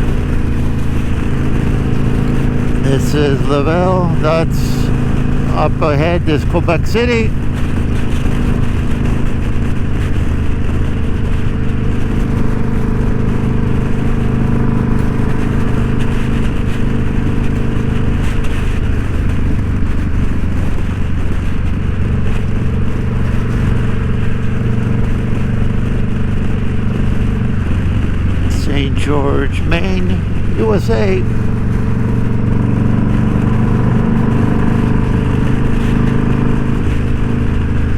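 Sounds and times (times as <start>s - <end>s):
motorcycle engine cruising: 0.0s - 37.9s
wind and road noise: 0.0s - 37.9s.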